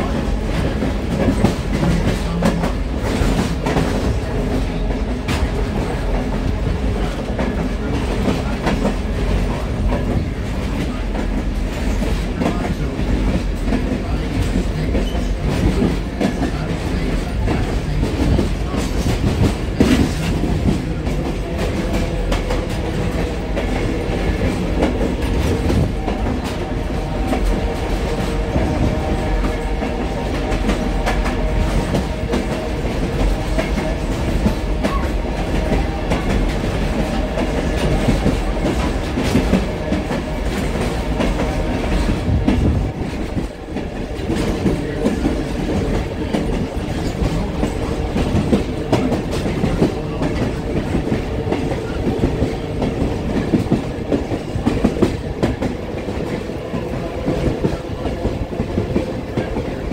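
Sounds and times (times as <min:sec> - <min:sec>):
train cars rumbling: 0:00.0 - 0:59.9.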